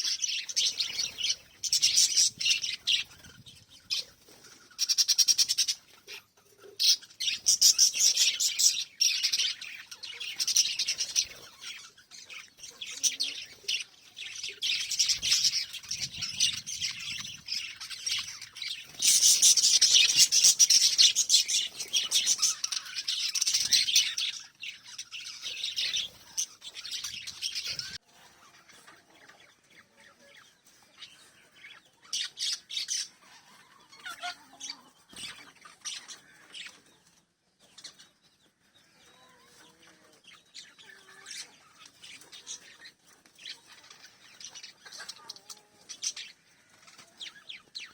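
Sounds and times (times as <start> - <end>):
parrots chirping and chattering: 0.0 - 47.9.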